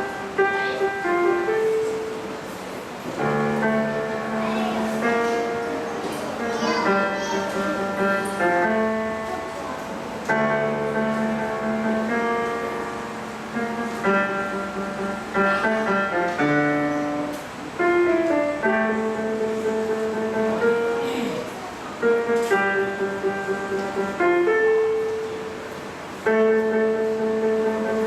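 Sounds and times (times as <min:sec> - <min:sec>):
piano playing slow chords: 0:00.0 - 0:28.0.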